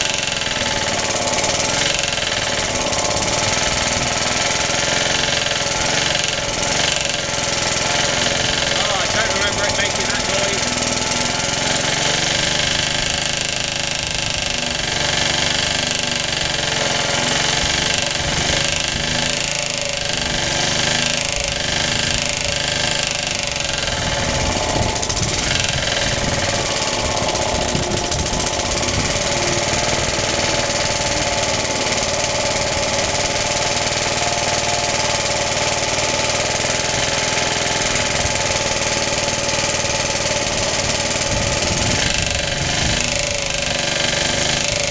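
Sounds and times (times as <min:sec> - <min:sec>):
engine running with loud knock: 0:00.0 - 0:44.9.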